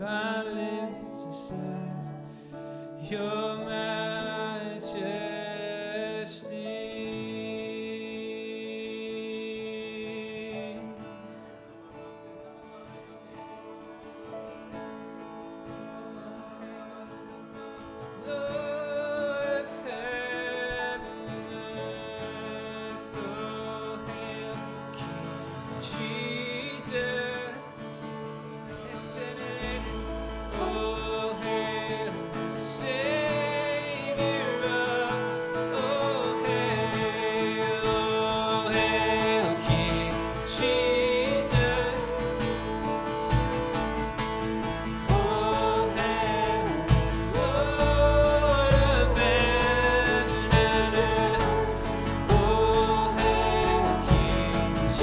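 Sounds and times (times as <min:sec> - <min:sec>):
person singing: 0:00.0 - 0:12.0, 0:12.6 - 0:55.0
worship band music: 0:00.0 - 0:55.0.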